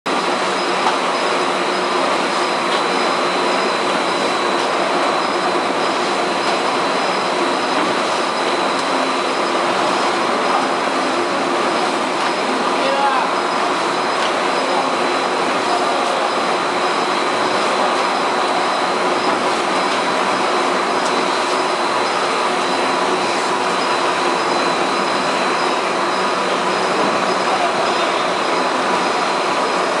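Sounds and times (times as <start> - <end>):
dense machine noise: 0.1 - 30.0
high-pitched machine whines: 0.1 - 30.0.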